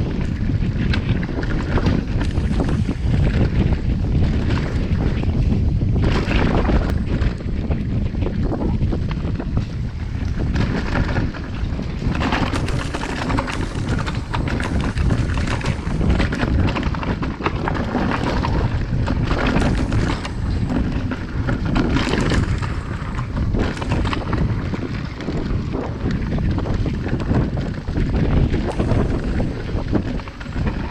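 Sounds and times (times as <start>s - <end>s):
bike rattling and clicking: 0.0s - 30.9s
bike tyres on dirt trail: 0.0s - 30.9s
wind buffeting microphone: 0.0s - 30.9s.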